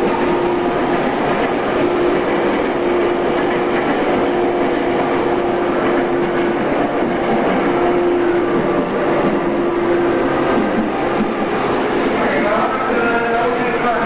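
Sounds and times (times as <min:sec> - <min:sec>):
electric train interior hum: 0:00.0 - 0:14.0.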